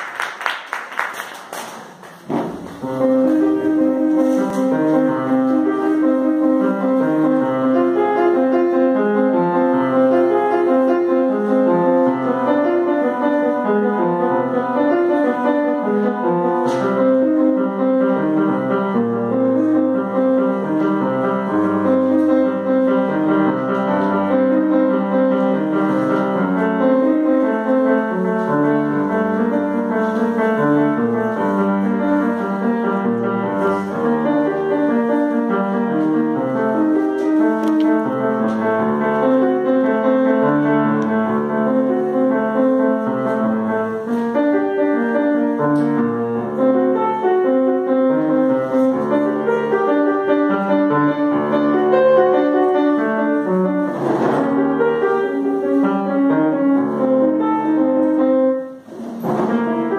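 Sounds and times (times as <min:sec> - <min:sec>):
grand piano playing: 0:02.4 - 0:59.9.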